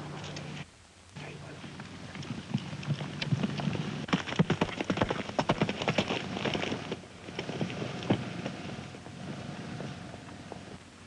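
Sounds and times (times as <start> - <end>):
horse hoofbeats galloping: 1.2 - 10.8.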